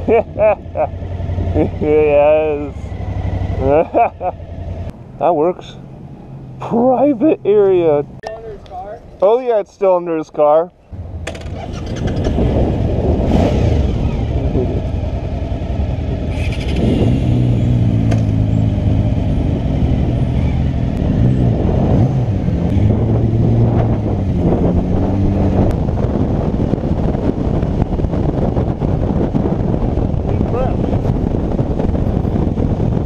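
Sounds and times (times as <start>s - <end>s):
motorcycle riding off: 0.0s - 4.9s, 11.0s - 33.0s
motorcycle engines rumbling: 0.0s - 33.0s.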